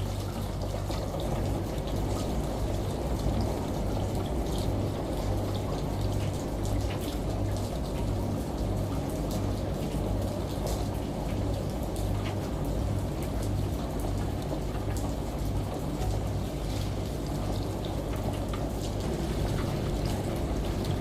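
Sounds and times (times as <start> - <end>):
rain pattering: 0.0 - 21.0
shower running water: 0.0 - 21.0
washing machine humming: 0.0 - 21.0.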